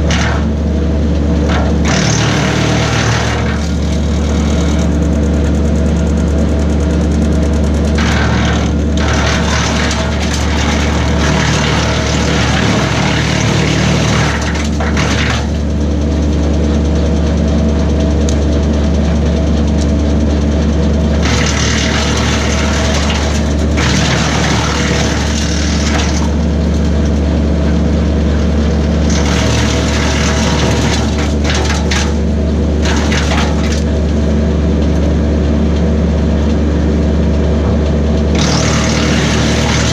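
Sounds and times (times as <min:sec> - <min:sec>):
wood chipper chipping branches: 0:00.0 - 0:39.9.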